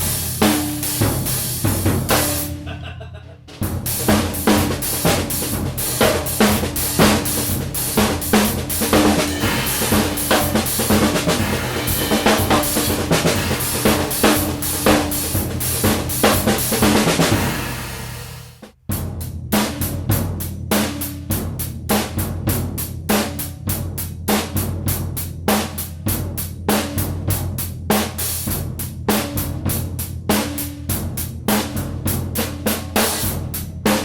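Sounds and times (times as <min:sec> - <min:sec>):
drum kit playing a groove: 0:00.0 - 0:34.0.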